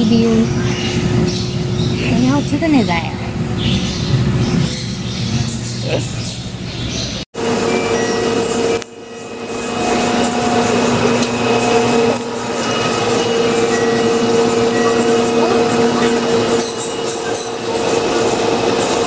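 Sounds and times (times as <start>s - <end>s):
machine hum with low whirring: 0.0s - 19.0s.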